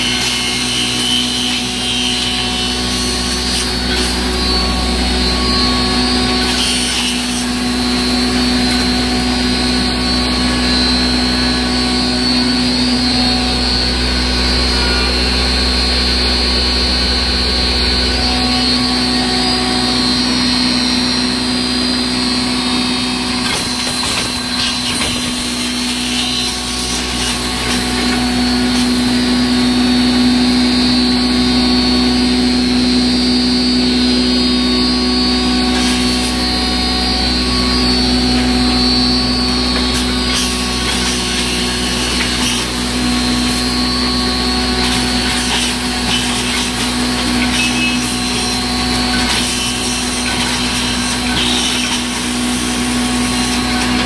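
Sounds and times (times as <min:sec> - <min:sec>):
herb grinder humming and whining: 0:00.0 - 0:54.0.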